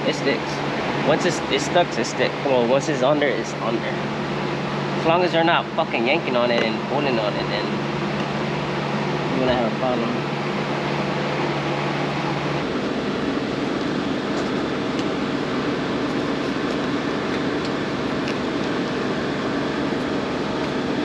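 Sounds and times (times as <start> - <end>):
fan whirring: 0.0 - 21.0.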